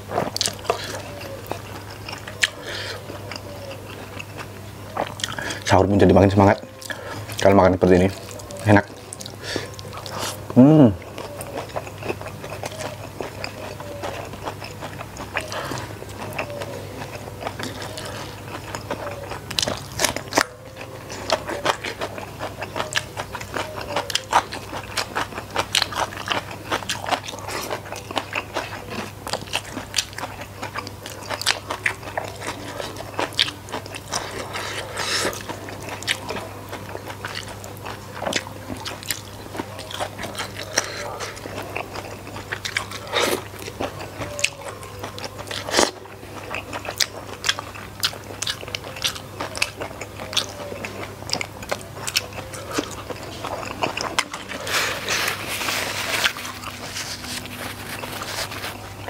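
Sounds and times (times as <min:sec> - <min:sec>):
chewing with crunches: 0:00.0 - 0:59.0.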